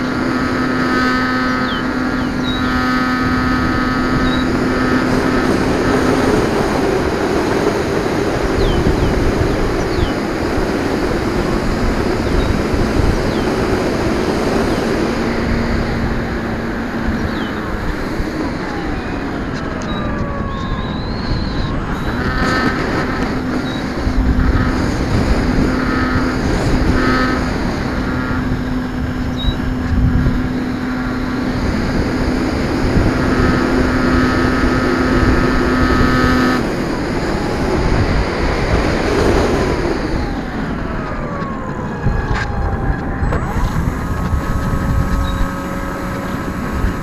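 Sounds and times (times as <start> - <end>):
model plane motor buzzing whine: 0.0 - 47.0.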